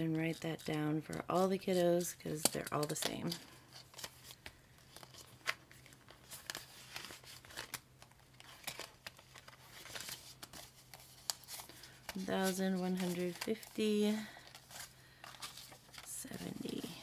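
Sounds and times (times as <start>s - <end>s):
paper banknotes rustling: 0.2s - 17.0s.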